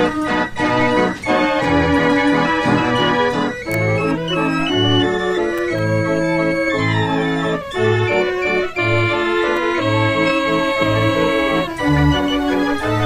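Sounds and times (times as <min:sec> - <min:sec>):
organ music: 0:00.0 - 0:13.0.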